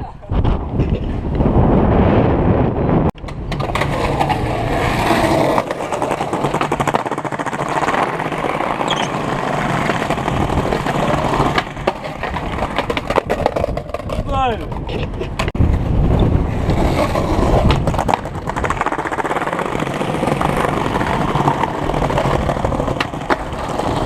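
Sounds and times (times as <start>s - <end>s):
skateboard wheels on rough pavement: 0.4s - 24.0s.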